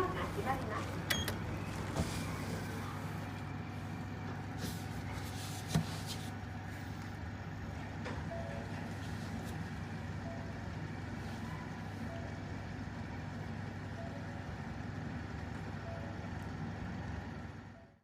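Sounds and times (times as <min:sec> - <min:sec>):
vehicle mechanical hum: 0:00.0 - 0:18.0.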